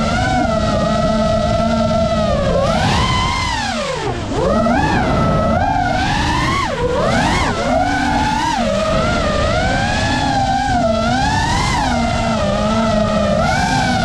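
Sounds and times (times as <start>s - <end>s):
drone motors whining: 0.0s - 14.0s
wind and prop noise: 0.0s - 14.0s.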